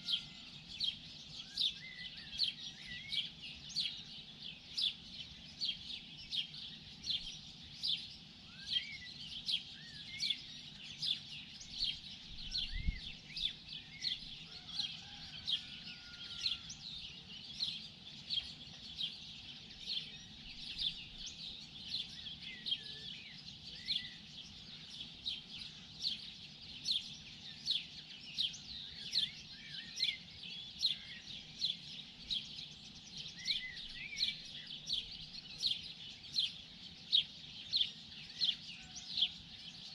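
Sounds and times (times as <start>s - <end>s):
birds calling softly: 0.0s - 39.9s.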